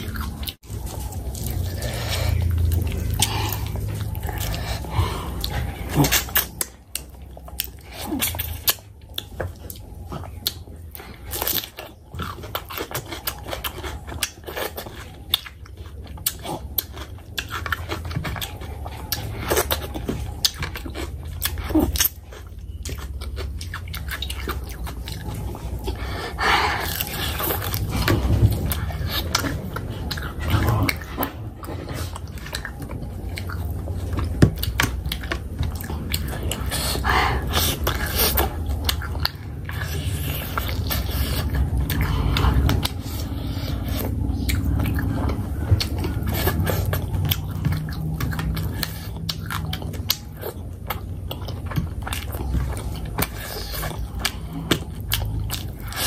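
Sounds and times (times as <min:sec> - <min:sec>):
chewing and mouth smacks: 0:00.0 - 0:56.0
steady low hum: 0:00.0 - 0:56.0.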